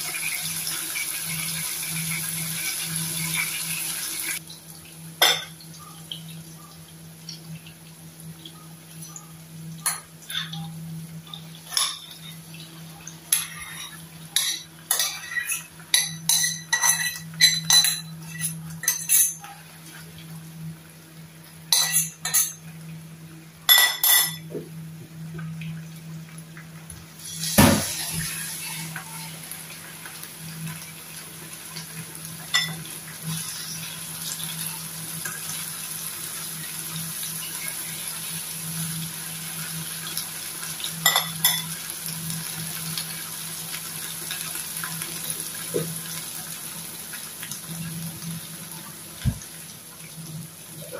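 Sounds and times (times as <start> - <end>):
beans sizzling in pan: 0.0 - 23.2, 25.8 - 50.9.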